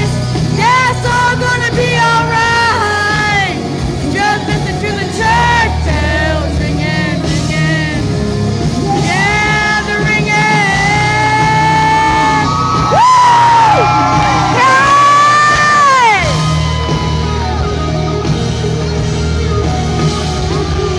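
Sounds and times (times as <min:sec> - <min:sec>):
woman singing: 0:00.0 - 0:17.4
country-pop band playing: 0:00.0 - 0:20.9.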